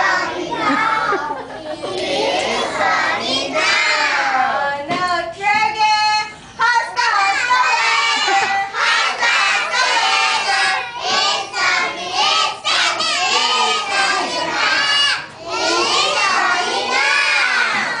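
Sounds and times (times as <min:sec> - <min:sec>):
children singing and shouting: 0:00.0 - 0:05.8, 0:06.6 - 0:18.0.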